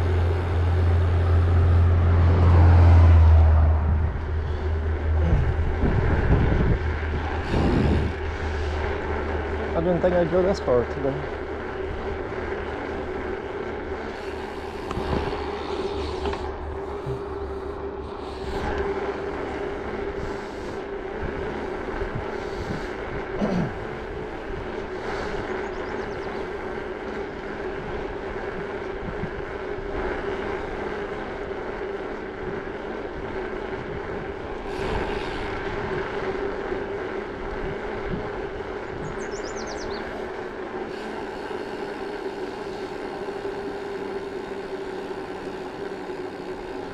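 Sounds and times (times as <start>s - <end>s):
bicycle tyres on paved road: 0.0s - 46.9s
constant hum: 0.0s - 46.9s
wind: 0.0s - 46.9s.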